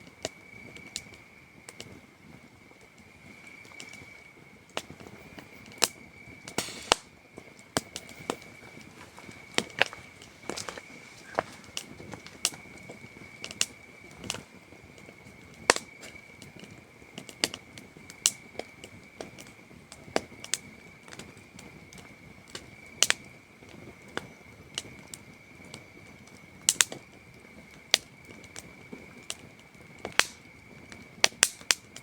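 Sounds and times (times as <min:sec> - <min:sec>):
campfire crackling and popping: 0:00.0 - 0:32.0
cricket trill: 0:00.0 - 0:32.0.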